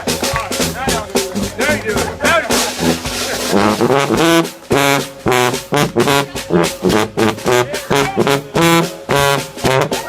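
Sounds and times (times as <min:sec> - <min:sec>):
brass band playing short notes: 0:00.0 - 0:10.0.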